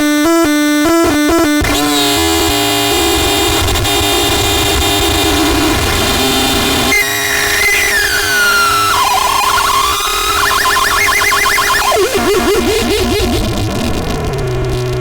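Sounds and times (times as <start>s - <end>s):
distorted noise drone: 1.3s - 15.0s
squealing tone sliding downward: 1.6s - 15.0s.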